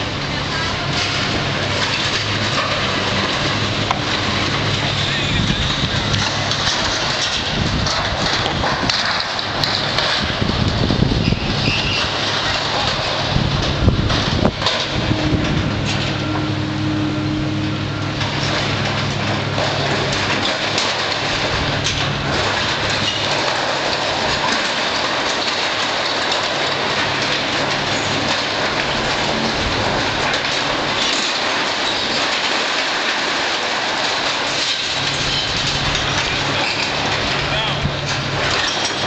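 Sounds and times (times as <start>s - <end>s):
debris crunching and rattling: 0.0s - 39.0s
diesel engine humming: 0.0s - 39.0s.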